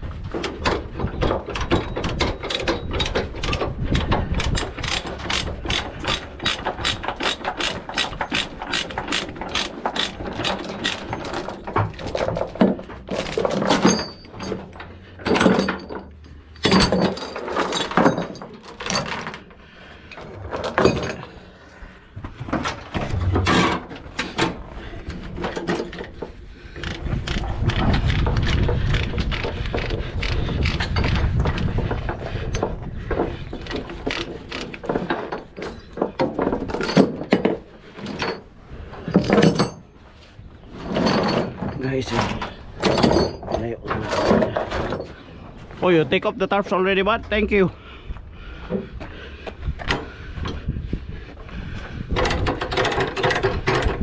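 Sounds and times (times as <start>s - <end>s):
chain and hooks clanking: 0.0s - 21.7s, 22.4s - 47.7s, 49.7s - 50.7s, 51.7s - 54.0s.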